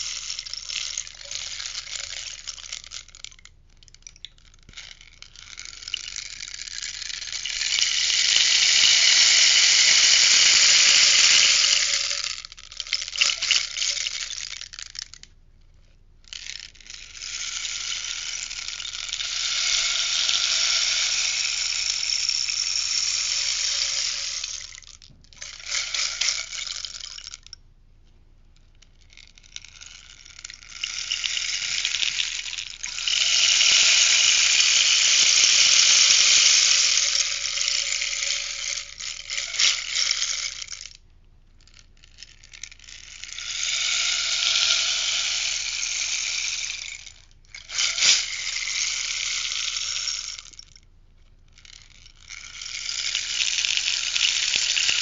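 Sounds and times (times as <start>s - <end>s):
rainstick hissing rattle: 0.0s - 15.3s, 16.3s - 27.6s, 28.8s - 41.0s, 41.6s - 50.8s, 51.6s - 55.0s.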